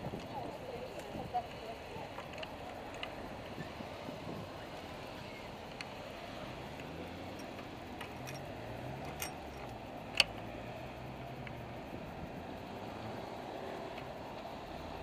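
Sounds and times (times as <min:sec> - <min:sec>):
street traffic noise: 0:00.0 - 0:15.0
vehicle engine humming low: 0:00.0 - 0:15.0.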